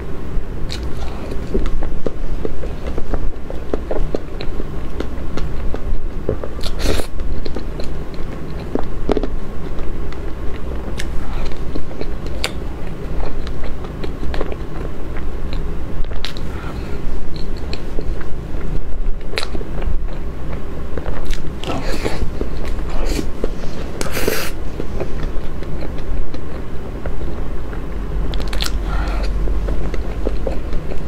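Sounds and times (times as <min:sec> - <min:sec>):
chewing and mouth sounds: 0:00.7 - 0:31.0.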